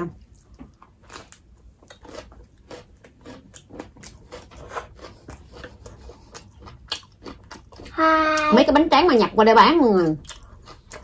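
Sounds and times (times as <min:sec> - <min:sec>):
wet chewing with small crunches: 0:00.2 - 0:08.7, 0:09.9 - 0:11.0.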